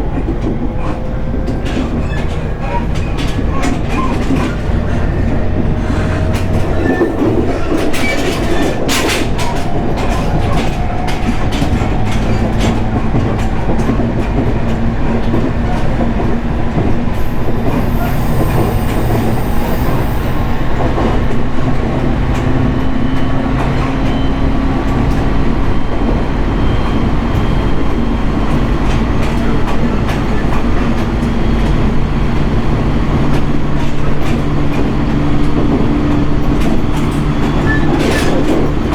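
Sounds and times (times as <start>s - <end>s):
rail-joint clicks: 0.0s - 38.9s
train wheels rumbling on rail: 0.0s - 38.9s.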